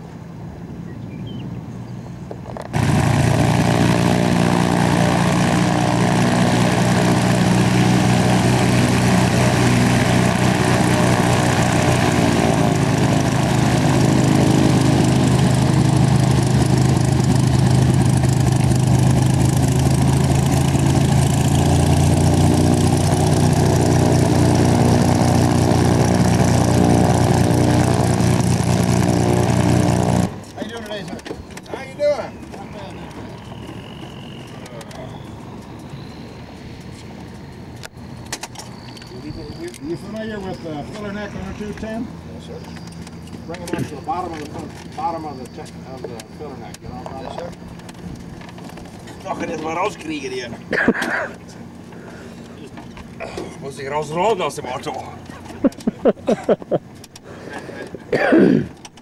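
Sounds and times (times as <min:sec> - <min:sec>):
aircraft piston engine running: 0:02.6 - 0:59.0.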